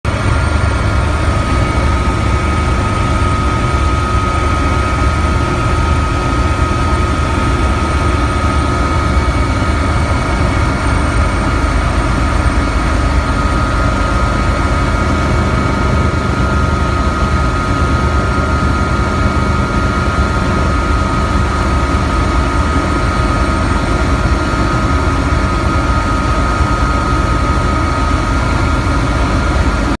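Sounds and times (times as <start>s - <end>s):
vehicle engine drone: 0.0s - 30.0s
constant whining tone: 0.1s - 30.0s.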